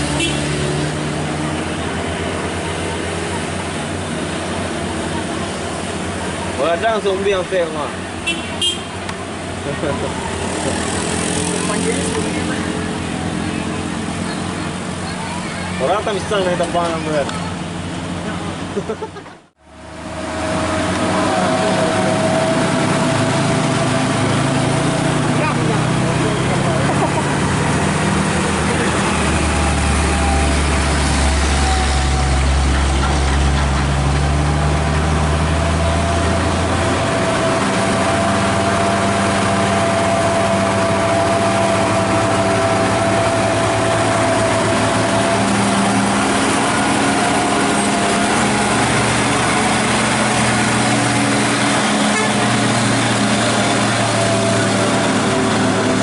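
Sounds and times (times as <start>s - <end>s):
truck engines in passing traffic: 0.0s - 56.0s.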